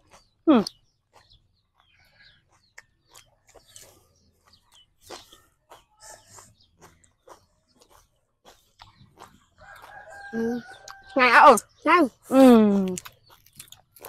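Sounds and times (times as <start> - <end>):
people chewing and lip-smacking: 0.0 - 14.0.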